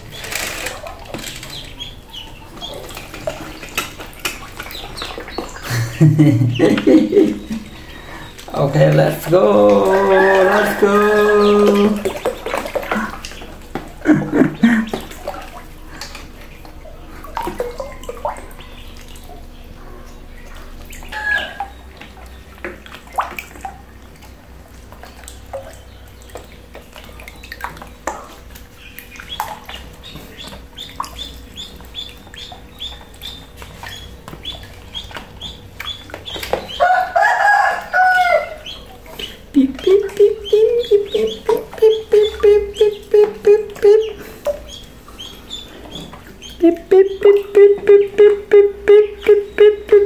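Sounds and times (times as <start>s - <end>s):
duckling peeps: 0.0s - 8.6s, 9.6s - 16.6s, 17.2s - 23.3s, 25.0s - 50.0s
ducklings splashing in water: 0.0s - 50.0s
faint steady hum: 0.0s - 50.0s.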